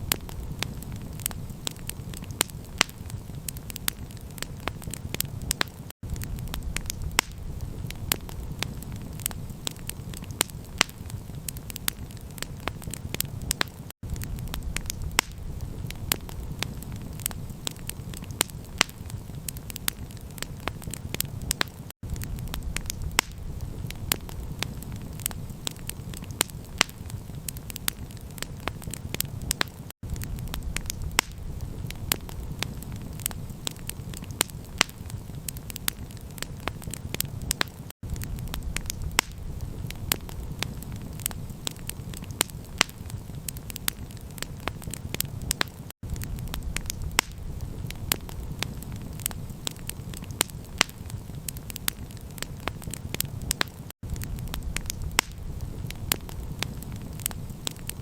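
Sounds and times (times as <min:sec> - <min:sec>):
campfire crackling and popping: 0:00.0 - 0:58.0
low fire rumble: 0:00.0 - 0:58.0.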